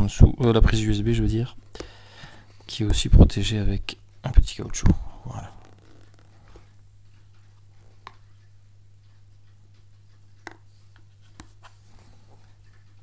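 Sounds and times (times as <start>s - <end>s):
steady low hum: 0.0s - 13.0s
faint clicks and taps: 1.5s - 13.0s.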